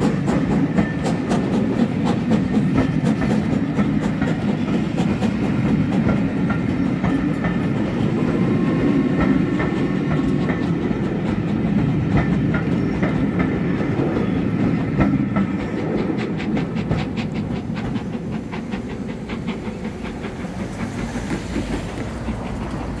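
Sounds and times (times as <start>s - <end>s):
train wheels rumbling and clicking: 0.0s - 23.0s.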